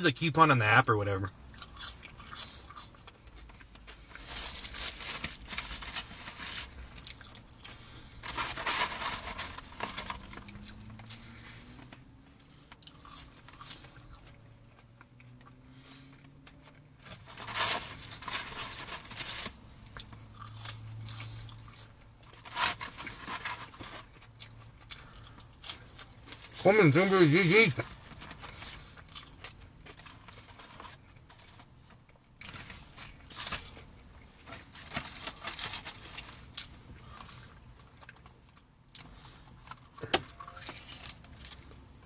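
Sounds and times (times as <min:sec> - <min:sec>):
chewing crispy fried chicken: 0:01.3 - 0:42.0.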